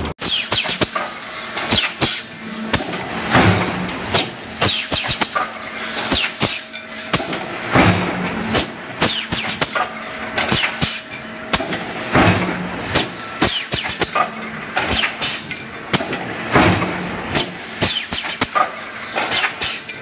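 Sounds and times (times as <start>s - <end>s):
stamping press metal clanks: 0.0s - 20.0s.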